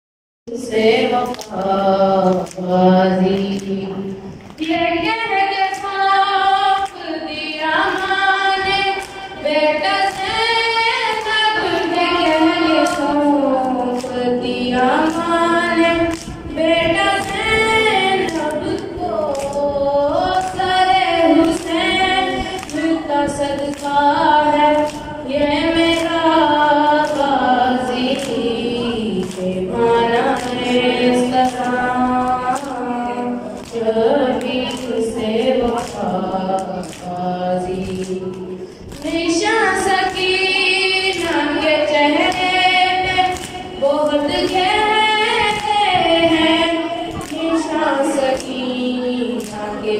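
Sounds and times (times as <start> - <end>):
boy singing through microphone: 0.5 - 49.9
voices singing in chorus: 0.5 - 49.9.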